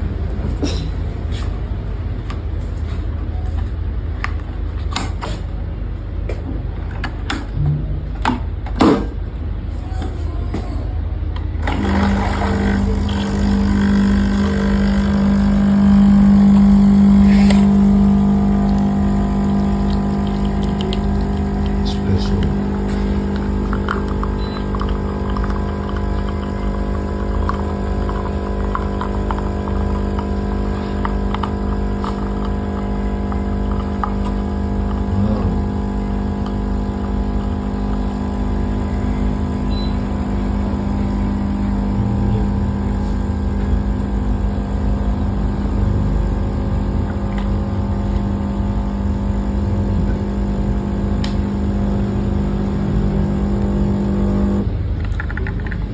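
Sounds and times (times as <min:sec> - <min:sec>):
coffee machine humming: 0:11.1 - 0:55.9.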